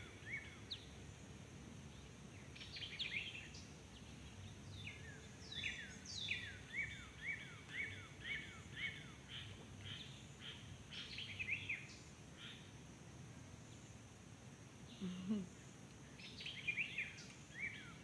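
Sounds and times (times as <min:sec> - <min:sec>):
faint outdoor hum: 0:00.0 - 0:18.0
songbird singing: 0:00.0 - 0:18.0.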